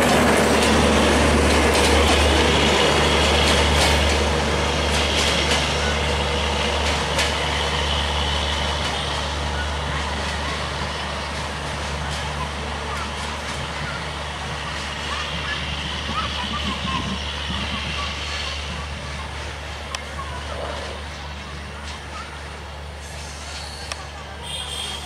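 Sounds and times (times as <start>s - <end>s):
train wheels clicking over rail joints: 0.0s - 24.2s.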